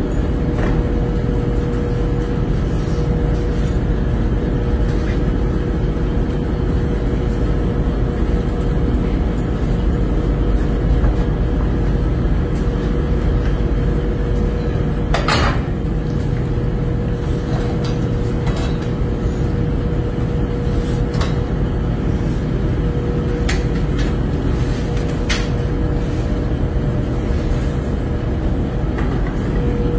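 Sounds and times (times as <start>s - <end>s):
machinery hum with whine: 0.0s - 29.9s.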